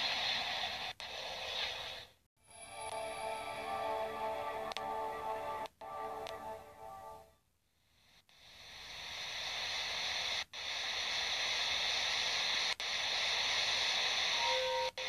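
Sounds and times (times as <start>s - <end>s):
static-like hiss: 0.0s - 15.0s.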